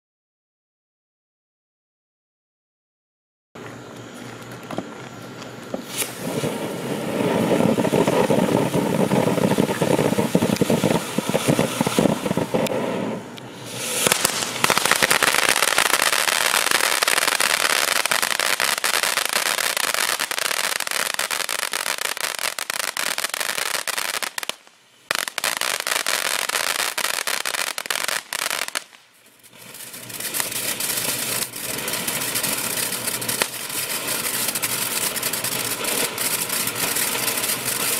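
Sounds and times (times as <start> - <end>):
firework fountain crackling: 3.8 - 37.9.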